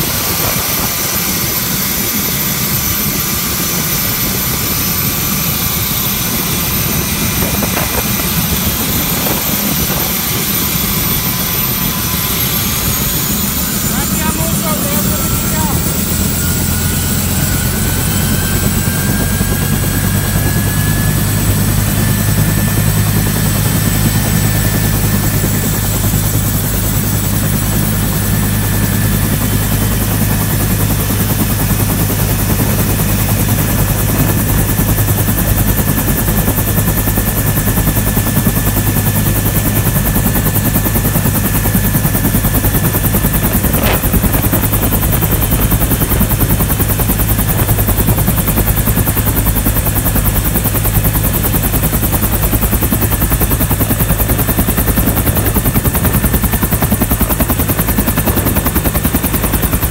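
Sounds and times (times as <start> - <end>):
helicopter rotor beat and engine whine: 0.0 - 59.9.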